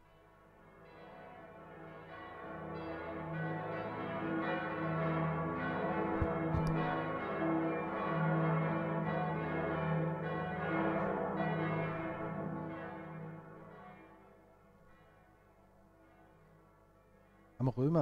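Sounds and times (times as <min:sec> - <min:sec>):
church bells ringing: 0:00.1 - 0:18.0.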